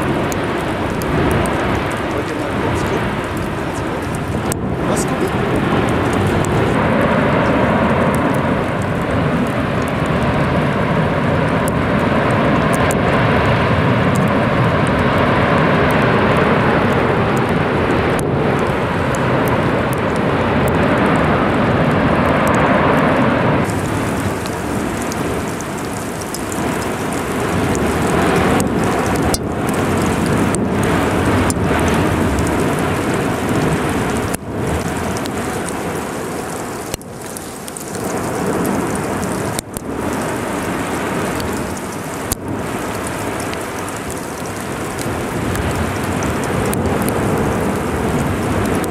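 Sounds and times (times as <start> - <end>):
sharp cracks: 0.0 - 21.3, 23.6 - 48.9
lava fountain rushing noise: 0.0 - 48.9.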